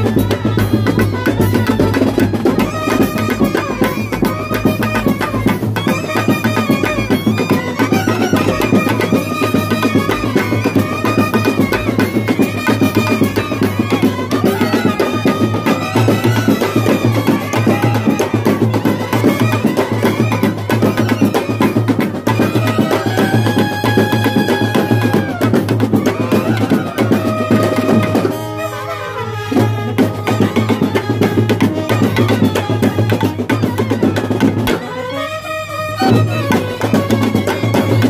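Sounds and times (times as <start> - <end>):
snare and bass drumming: 0.0 - 28.6, 29.5 - 35.0, 36.0 - 38.0
brass band playing: 0.0 - 38.0
trumpets and euphoniums melody: 0.0 - 38.0.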